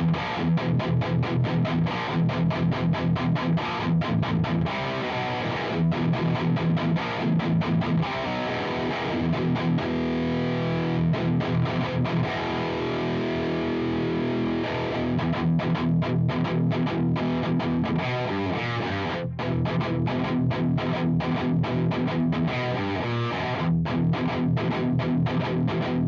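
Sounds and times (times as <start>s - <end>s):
distorted electric guitar riff: 0.0s - 26.0s.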